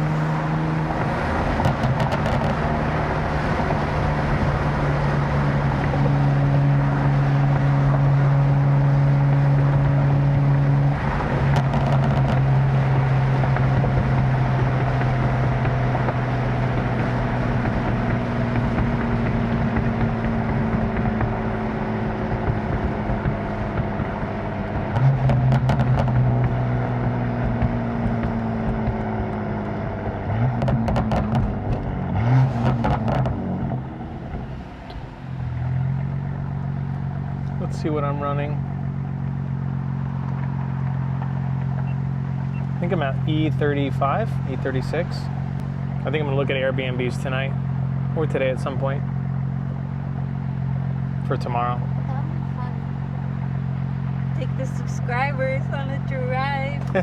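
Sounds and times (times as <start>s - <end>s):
car engine and exhaust: 0.0s - 57.0s
exhaust crackles and pops: 0.8s - 57.0s.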